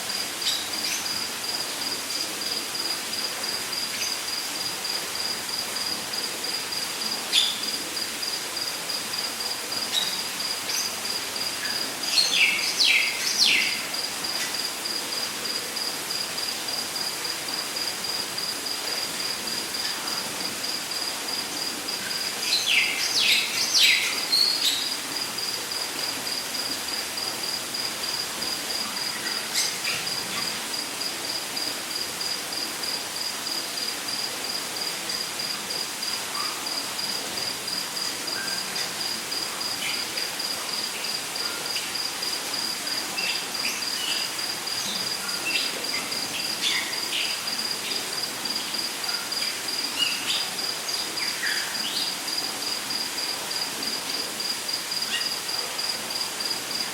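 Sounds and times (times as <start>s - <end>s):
background hiss: 0.0s - 56.9s.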